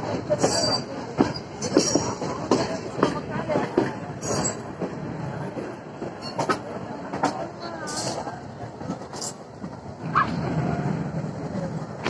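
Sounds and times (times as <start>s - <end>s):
train wheel rumble: 0.0s - 12.0s.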